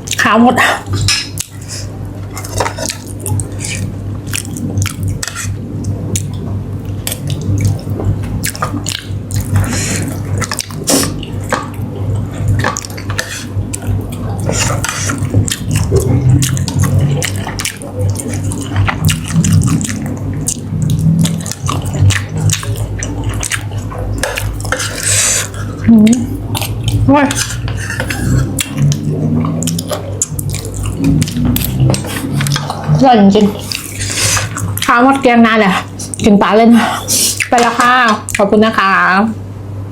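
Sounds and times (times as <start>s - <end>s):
person chewing: 0.0s - 35.2s, 35.8s - 37.7s
steady low hum: 0.0s - 39.9s.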